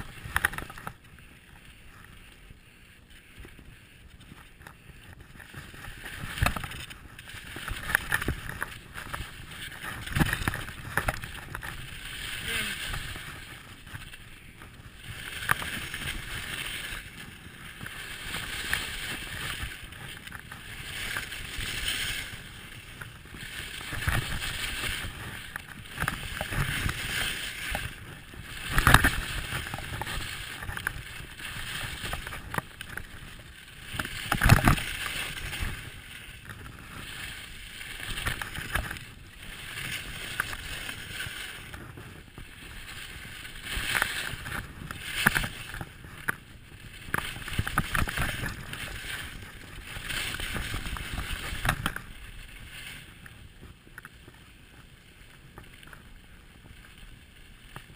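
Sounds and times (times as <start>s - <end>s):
skis scraping on snow: 0.0s - 57.9s.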